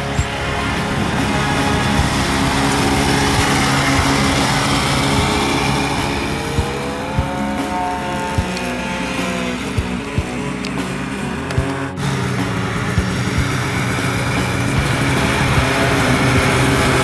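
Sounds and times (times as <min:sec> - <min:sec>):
snowmobile engines running: 0:00.0 - 0:17.0.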